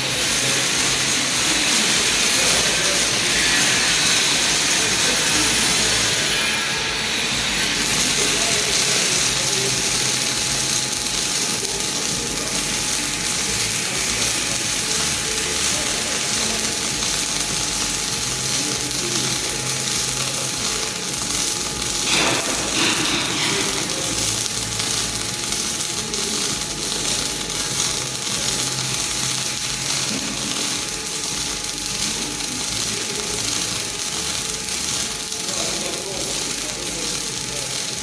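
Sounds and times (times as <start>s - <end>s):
welding arc crackling: 0.0s - 38.0s.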